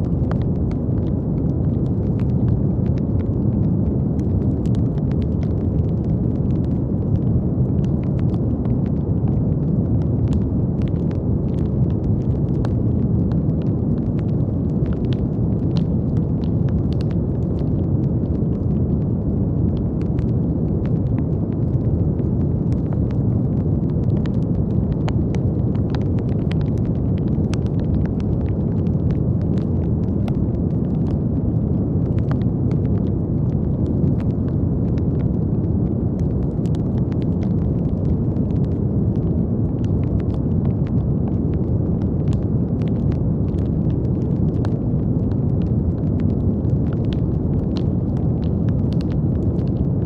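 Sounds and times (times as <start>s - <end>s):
faint crackling clicks: 0.0s - 50.0s.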